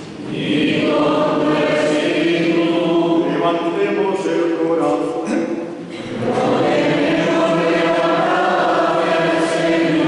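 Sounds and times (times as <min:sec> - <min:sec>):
choir singing sustained notes: 0:00.0 - 0:04.7, 0:06.0 - 0:10.0.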